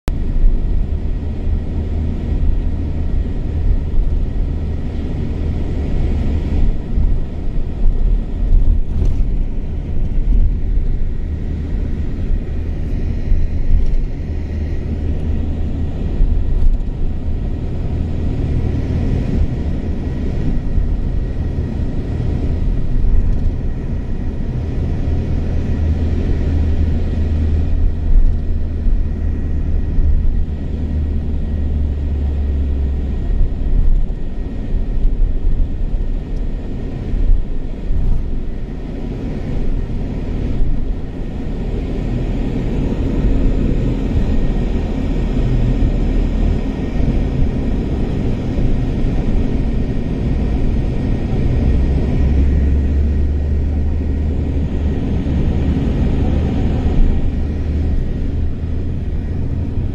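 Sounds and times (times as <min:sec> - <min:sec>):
vehicle rumble from inside: 0:00.0 - 0:59.9.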